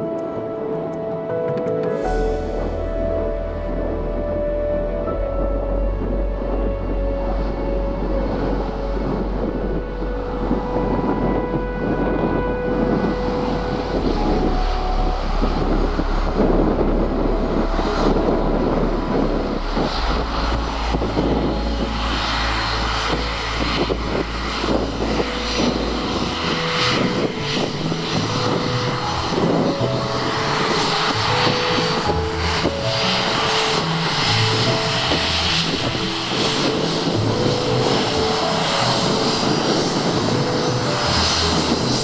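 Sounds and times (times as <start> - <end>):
wind buffeting microphone: 0.0 - 42.0
turboprop plane landing: 1.6 - 42.0.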